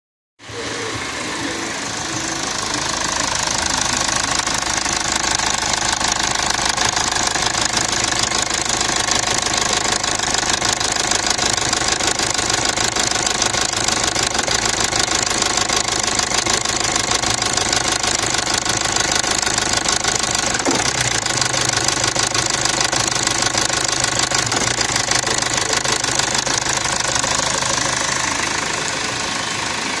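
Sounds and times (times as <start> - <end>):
diesel engine idling: 0.4 - 30.0.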